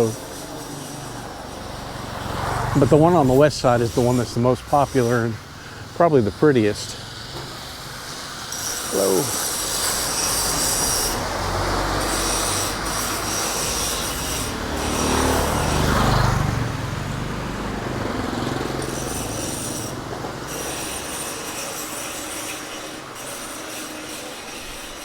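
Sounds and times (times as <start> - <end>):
vehicle engine passing by: 0.0 - 8.6, 9.4 - 22.0
steady traffic noise: 0.0 - 25.0.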